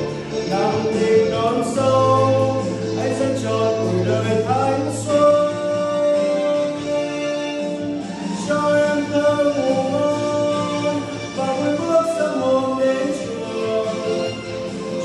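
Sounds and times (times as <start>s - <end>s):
man singing: 0.0s - 15.0s
musical backing: 0.0s - 15.0s.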